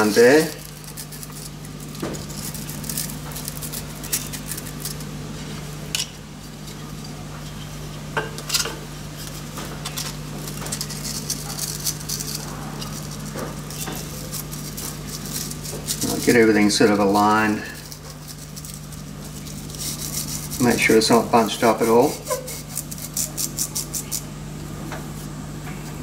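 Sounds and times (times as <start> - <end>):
abrasive paper rustling: 0.0 - 5.8, 9.1 - 24.2
steady low hum: 0.0 - 26.0.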